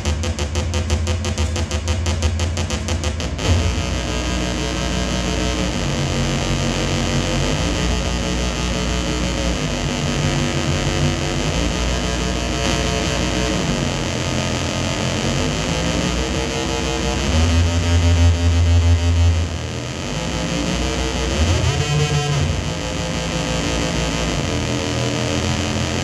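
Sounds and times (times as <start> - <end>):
distorted electronic feedback drone: 0.0 - 26.0
low hum: 0.0 - 26.0.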